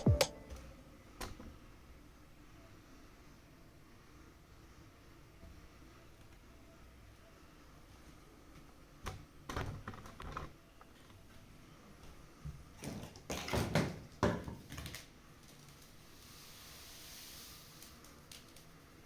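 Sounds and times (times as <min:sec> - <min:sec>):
faint room noise: 0:00.0 - 0:19.0.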